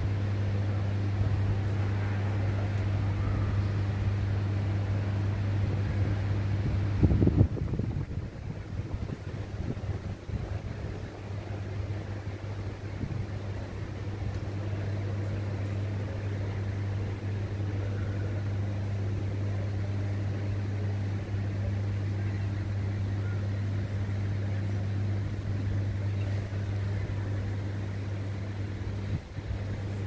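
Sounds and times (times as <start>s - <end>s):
low mechanical hum: 0.0s - 30.0s
outdoor background noise: 0.0s - 30.0s.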